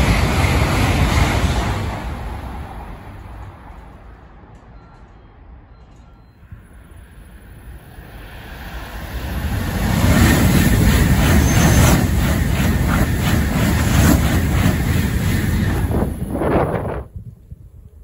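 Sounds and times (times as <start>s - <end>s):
high-speed train passing: 0.0s - 5.6s, 6.4s - 18.0s.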